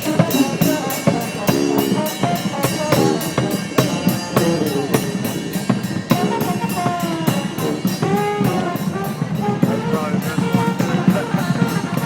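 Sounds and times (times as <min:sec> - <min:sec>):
drums beating: 0:00.0 - 0:12.0
street band playing: 0:00.0 - 0:12.0.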